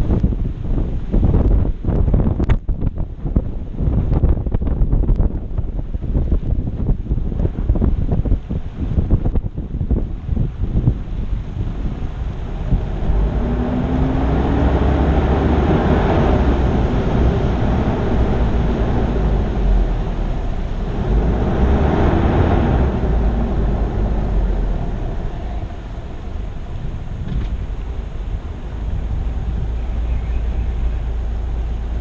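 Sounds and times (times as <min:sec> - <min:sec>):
engine and tyres rumbling: 0:00.0 - 0:32.0
wind buffeting microphone: 0:00.0 - 0:32.0.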